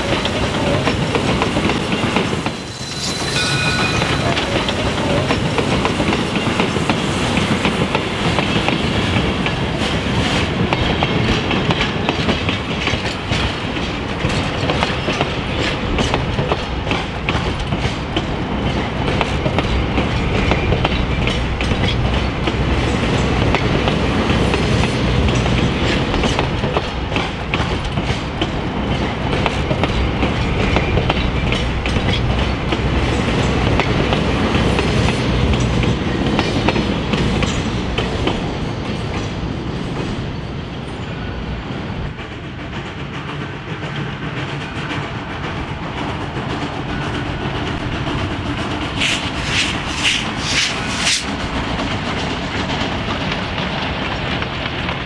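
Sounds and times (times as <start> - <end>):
train cars rumbling: 0.0 - 55.0.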